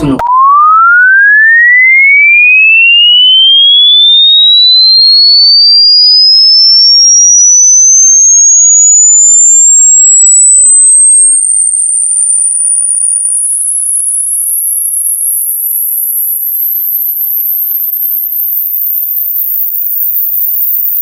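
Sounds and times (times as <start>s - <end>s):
sine tone sweeping upward: 0.0s - 21.0s.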